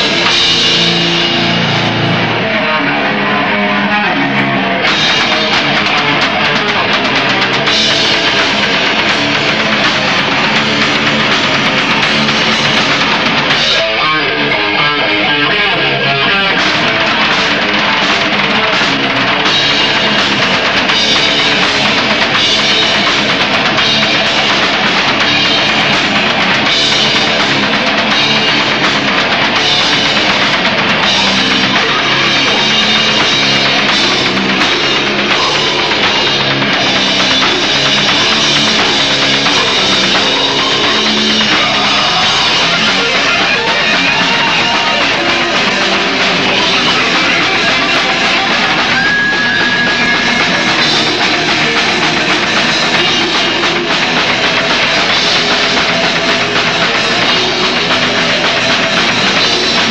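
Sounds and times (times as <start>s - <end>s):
death metal band playing: 0.0s - 59.9s
distorted electric guitars: 0.0s - 59.9s
pounding drum kit: 0.0s - 59.9s.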